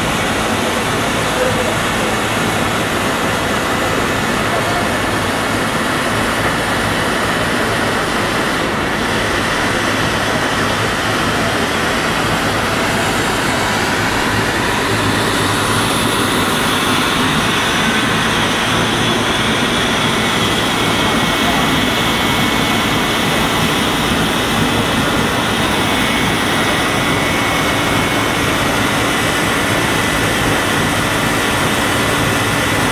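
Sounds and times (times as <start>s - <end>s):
loud steady machinery noise: 0.0s - 32.9s.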